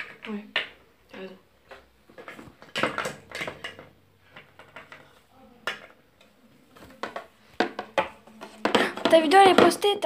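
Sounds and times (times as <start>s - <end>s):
plastic toys tapping on tabletop: 0.0s - 0.8s, 1.6s - 10.0s.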